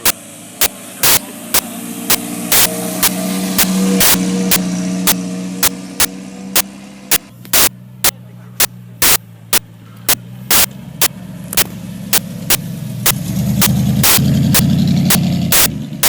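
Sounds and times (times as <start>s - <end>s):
engine low drone: 0.0s - 16.0s
sharp pops: 0.0s - 16.0s.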